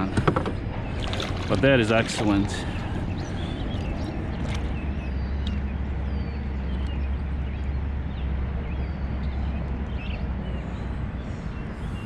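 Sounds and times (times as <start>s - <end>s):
birds chirping: 0.0s - 12.0s
wind buffeting microphone: 0.0s - 12.0s.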